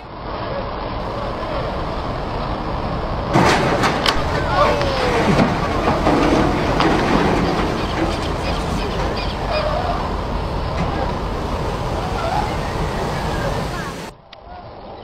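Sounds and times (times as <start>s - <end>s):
people's raised voices: 1.0s - 14.1s
ship deck rumble and rushing: 1.0s - 14.1s.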